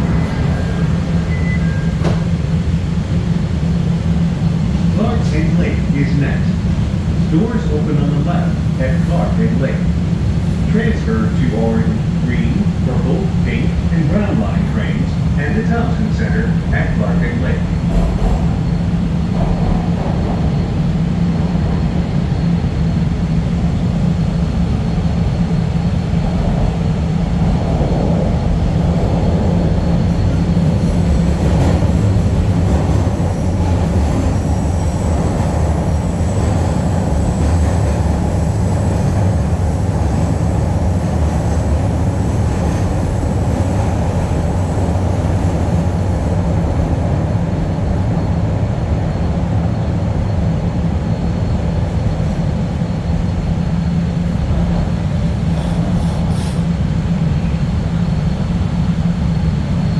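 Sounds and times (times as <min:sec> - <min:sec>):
subway train rumbling in tunnel: 0:00.0 - 0:59.9.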